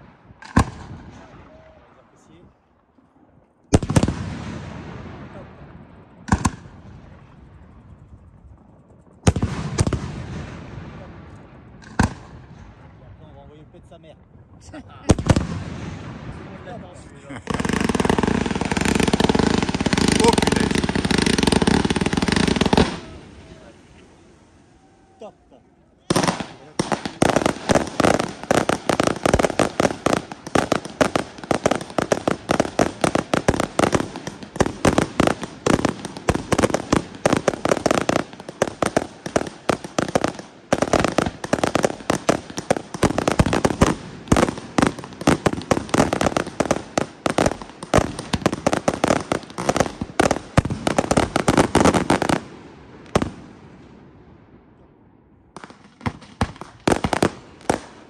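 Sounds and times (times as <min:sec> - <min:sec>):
fireworks bangs: 0:00.0 - 0:02.7, 0:03.7 - 0:25.3, 0:26.0 - 0:54.8, 0:55.5 - 0:58.0.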